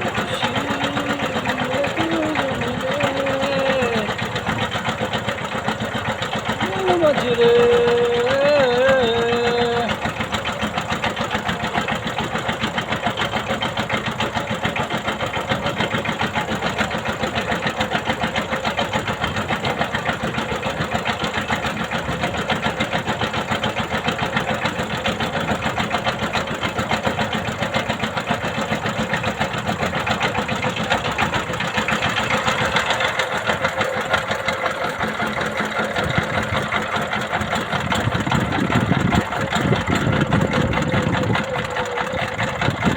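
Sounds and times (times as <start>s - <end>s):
boat engine chugging: 0.0s - 42.9s.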